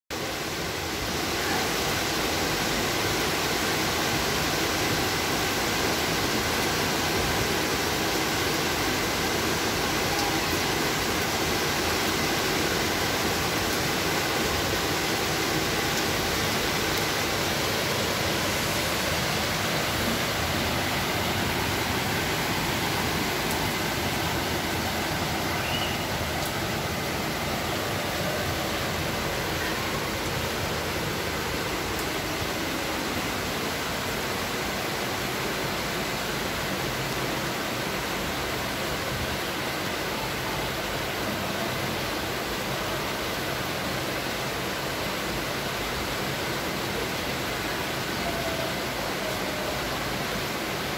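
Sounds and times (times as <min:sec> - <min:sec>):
steady rain falling: 0:00.1 - 0:50.9.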